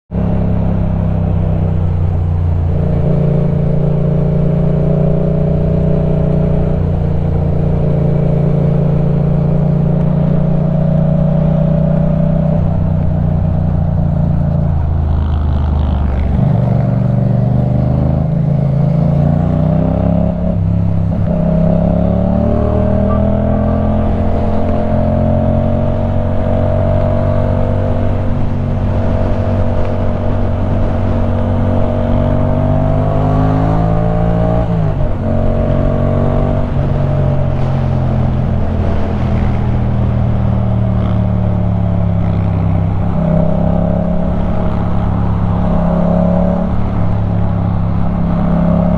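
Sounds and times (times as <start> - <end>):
motorcycle engine: 0.1 - 48.9.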